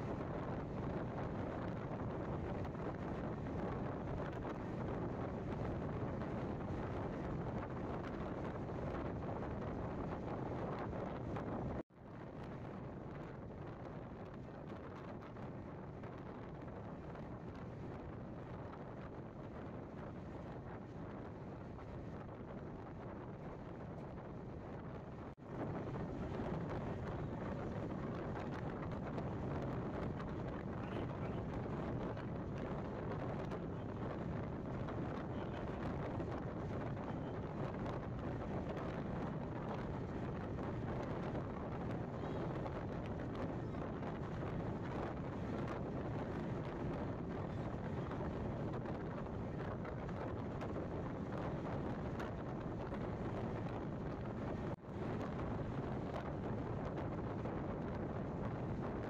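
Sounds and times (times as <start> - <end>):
low rumbling travel noise: 0.0 - 59.0
wind buffeting microphone: 0.0 - 59.0.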